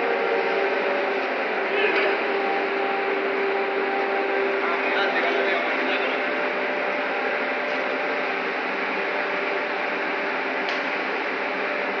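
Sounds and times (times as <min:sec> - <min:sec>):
crane machinery drone and hiss: 0:00.0 - 0:12.0.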